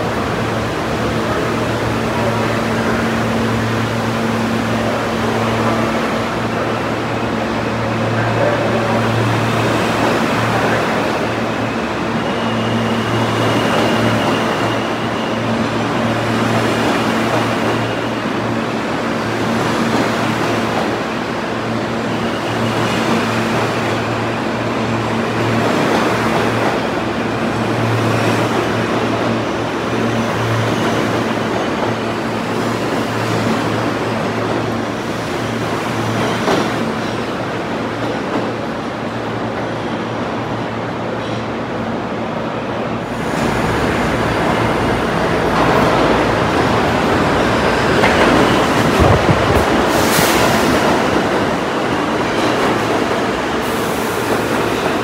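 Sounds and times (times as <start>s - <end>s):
subway train wheels rumbling: 0.0s - 55.0s.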